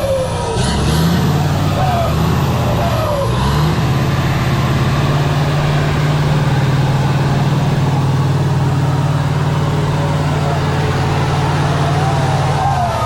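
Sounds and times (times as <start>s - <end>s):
truck engine running loud: 0.0s - 13.0s.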